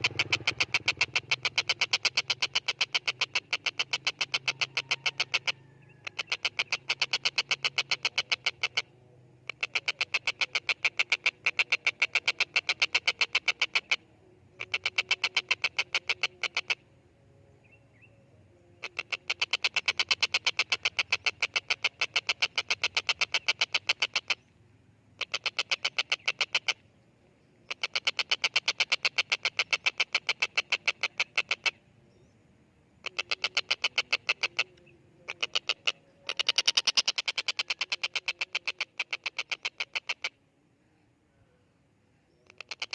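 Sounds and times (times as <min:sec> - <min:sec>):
kingfisher harsh rapid calls: 0:00.0 - 0:14.0, 0:14.6 - 0:16.8, 0:18.8 - 0:24.4, 0:25.2 - 0:26.8, 0:27.6 - 0:31.8, 0:33.0 - 0:40.4, 0:42.4 - 0:42.9.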